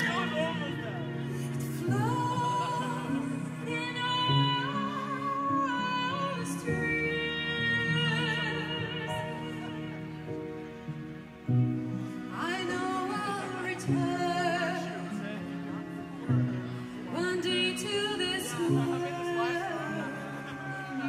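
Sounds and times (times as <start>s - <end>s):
woman singing: 0.0s - 10.2s, 12.3s - 15.4s, 17.1s - 21.0s
sustained backing chords: 0.0s - 21.0s.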